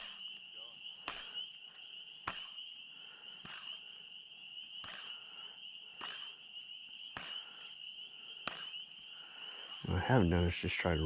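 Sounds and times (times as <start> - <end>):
chorus of calling animals: 0.0 - 11.0.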